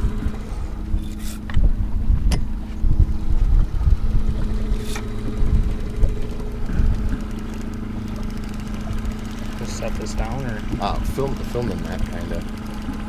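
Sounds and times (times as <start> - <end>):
outboard motor humming: 0.0 - 13.0
wind buffeting microphone: 0.0 - 13.0.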